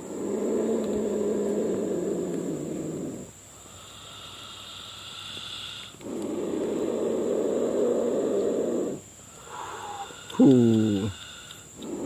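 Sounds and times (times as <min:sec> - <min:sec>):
snake hissing: 0:00.0 - 0:12.0.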